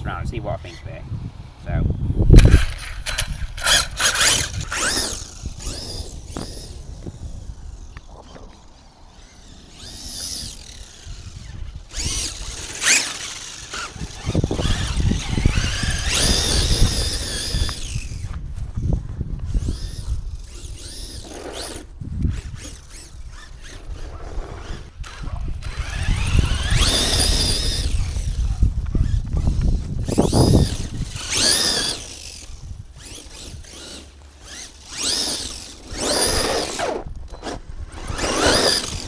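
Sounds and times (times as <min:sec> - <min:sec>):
electric motor whining: 0:02.3 - 0:39.0.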